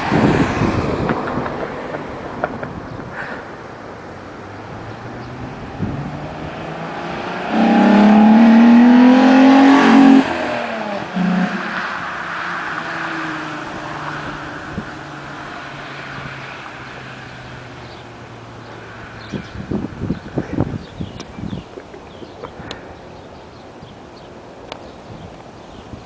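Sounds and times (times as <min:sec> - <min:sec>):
car engine idling and revving: 0:00.0 - 0:21.4.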